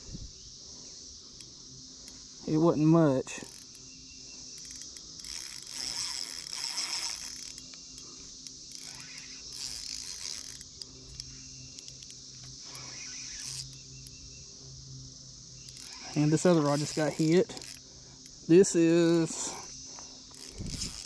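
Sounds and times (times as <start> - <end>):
crickets chirping: 0.0 - 21.0
fishing reel clicking and whirring: 1.3 - 14.3, 15.6 - 21.0.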